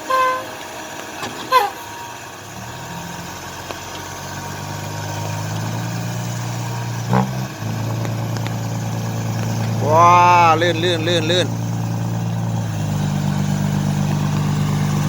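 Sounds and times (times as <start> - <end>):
vehicle engine labouring: 0.0 - 15.0.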